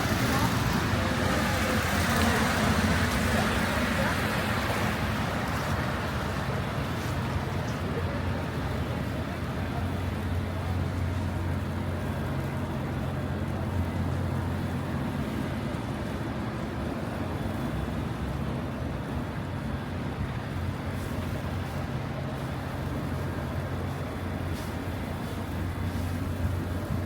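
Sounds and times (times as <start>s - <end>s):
road noise: 0.0s - 27.0s
traffic engine rumble: 0.0s - 27.0s.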